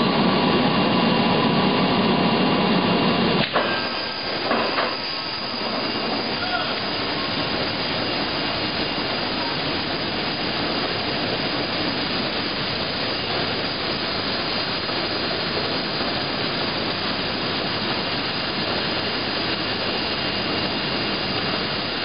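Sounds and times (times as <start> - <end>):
faint high whine: 0.0 - 22.0
machinery rushing noise: 0.0 - 22.0.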